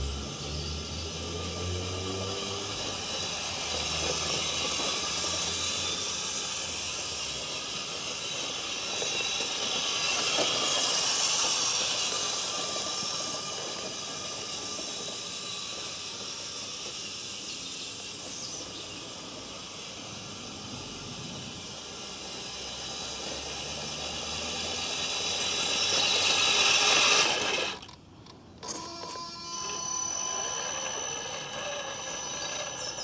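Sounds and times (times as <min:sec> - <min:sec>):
toy car motor and gears whirring: 0:00.0 - 0:33.0.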